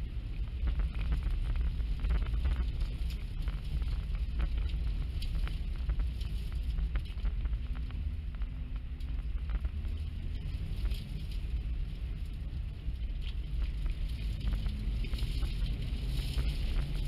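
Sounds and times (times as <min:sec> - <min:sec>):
car driving through snow: 0:00.0 - 0:17.0.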